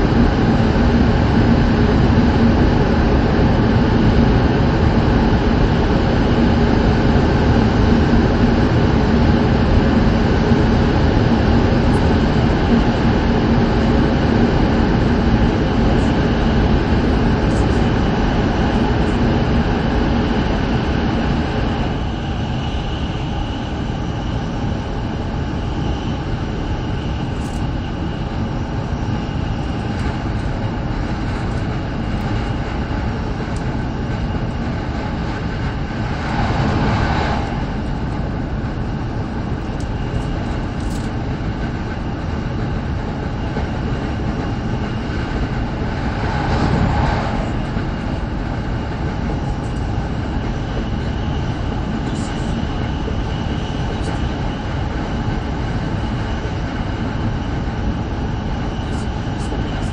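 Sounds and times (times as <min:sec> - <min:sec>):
train rumble inside cabin: 0:00.0 - 0:59.9.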